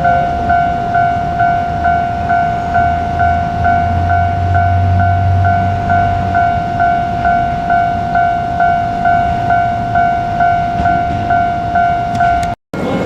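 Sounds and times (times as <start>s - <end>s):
level-crossing warning bell: 0.0s - 13.0s
train rumble: 0.0s - 13.0s.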